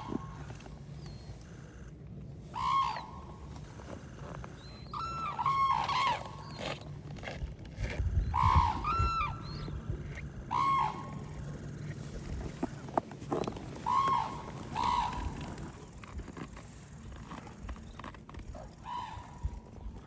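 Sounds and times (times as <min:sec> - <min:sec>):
cranes calling: 0:00.0 - 0:07.4, 0:08.2 - 0:20.0.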